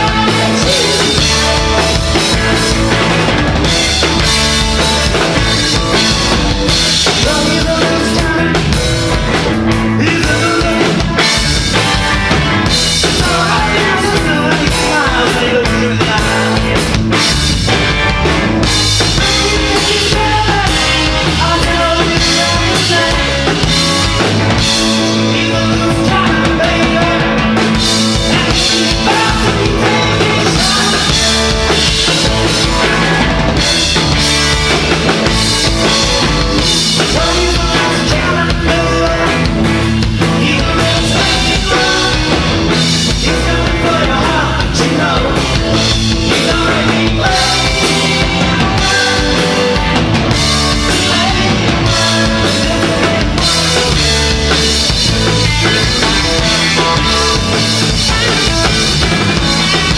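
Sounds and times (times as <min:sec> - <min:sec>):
drum kit: 0:00.0 - 0:59.9
rock band playing live: 0:00.0 - 0:59.9.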